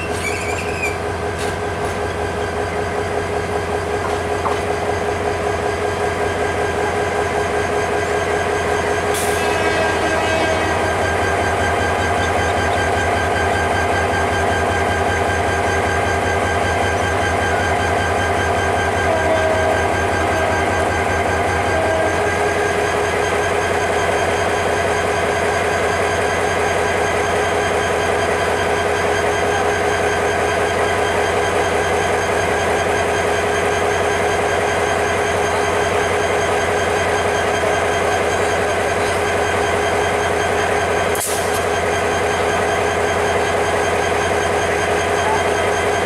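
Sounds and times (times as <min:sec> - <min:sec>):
train coaches rolling over rails: 0:00.0 - 0:46.0.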